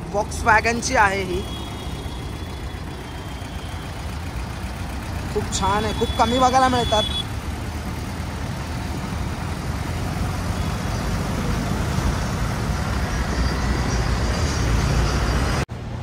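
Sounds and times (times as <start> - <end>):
city traffic: 0.0 - 16.0
motorbike engine and road rumble: 0.0 - 16.0.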